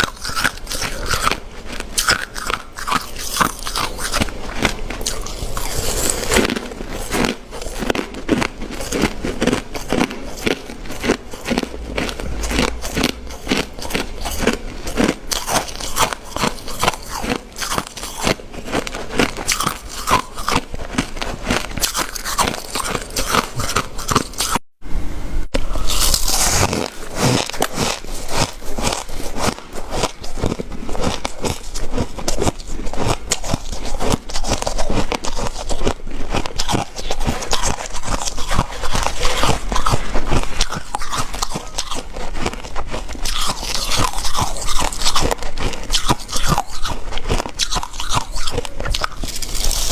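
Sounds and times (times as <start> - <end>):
ice crunching while chewed: 0.0 - 24.6, 25.6 - 49.9.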